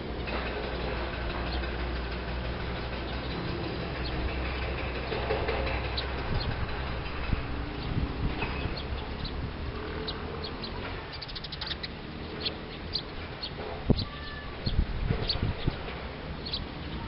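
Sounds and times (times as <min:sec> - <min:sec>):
small birds chirping: 0:02.7 - 0:17.0.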